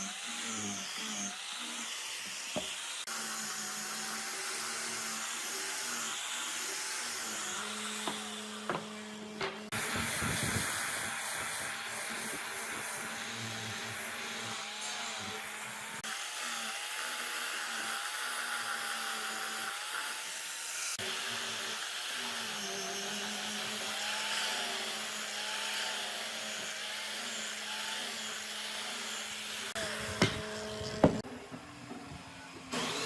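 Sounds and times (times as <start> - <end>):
electric power tool on wood: 0.0 - 33.0.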